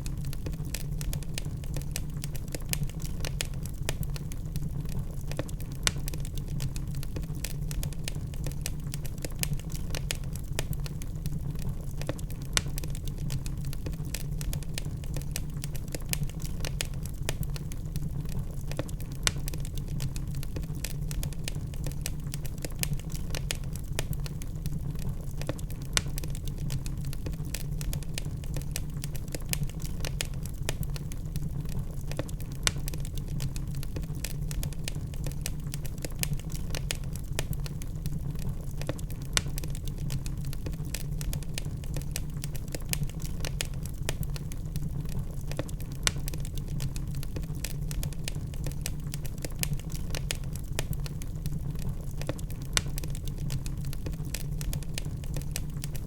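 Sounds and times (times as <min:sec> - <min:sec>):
logs burning in a fireplace: 0:00.0 - 0:56.0.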